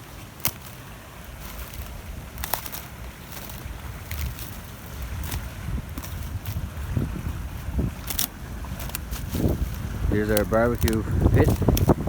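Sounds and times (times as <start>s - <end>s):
wind buffeting microphone: 0.9s - 12.0s.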